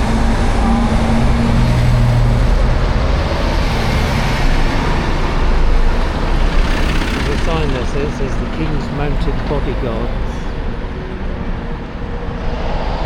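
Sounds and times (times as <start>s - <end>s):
street traffic road noise: 0.0s - 13.0s
vehicle engine humming: 0.0s - 13.0s.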